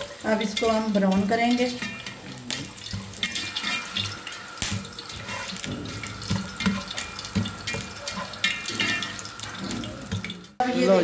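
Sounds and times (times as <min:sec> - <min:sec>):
spatula stirring in pot: 0:00.0 - 0:10.7
onions sizzling in hot oil: 0:00.0 - 0:11.0.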